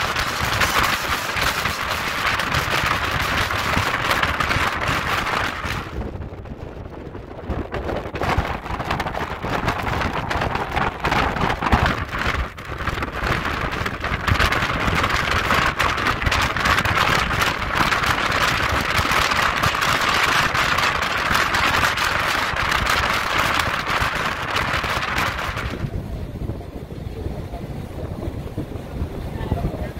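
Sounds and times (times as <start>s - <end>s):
rushing wind and water: 0.0s - 29.9s
wind buffeting microphone: 0.0s - 29.9s.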